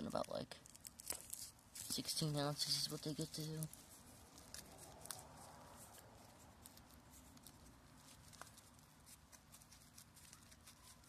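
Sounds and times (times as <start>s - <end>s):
faint outdoor hiss: 0.0s - 11.0s
light ticks and rustles: 0.1s - 11.0s.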